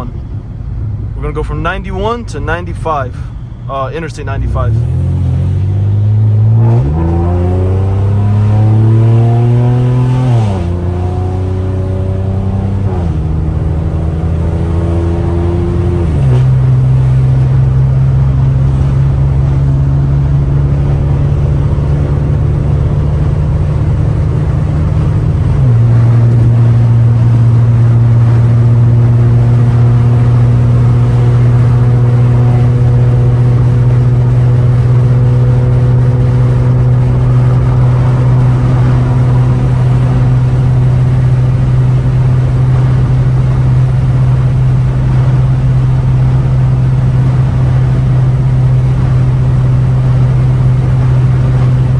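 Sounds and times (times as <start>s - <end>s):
car exhaust droning: 0.0s - 51.9s.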